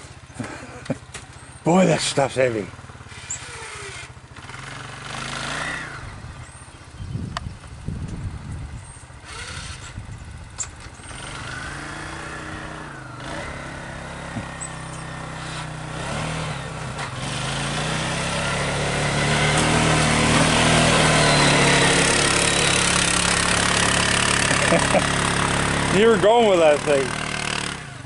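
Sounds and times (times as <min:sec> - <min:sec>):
snow plow engine: 0:00.0 - 0:07.0, 0:07.6 - 0:28.0.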